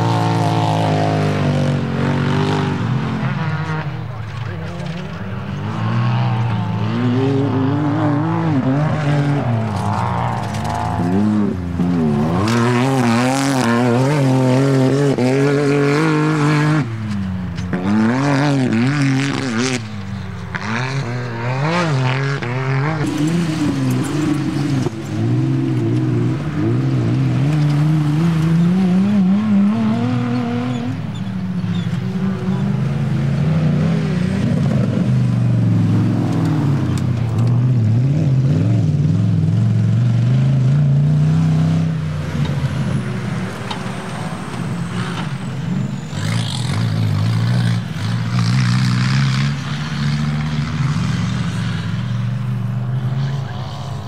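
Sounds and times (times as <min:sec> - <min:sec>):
race vehicle engines revving: 0:00.0 - 0:54.0.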